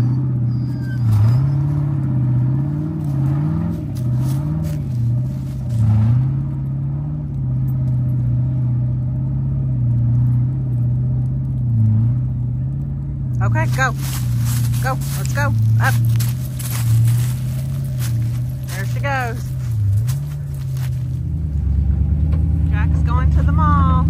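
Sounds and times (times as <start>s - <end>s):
vehicle engine at low revs: 0.0s - 24.0s.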